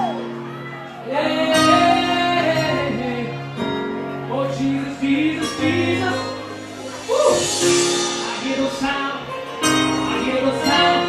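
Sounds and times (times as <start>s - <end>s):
person singing long sliding notes: 1.0s - 11.0s.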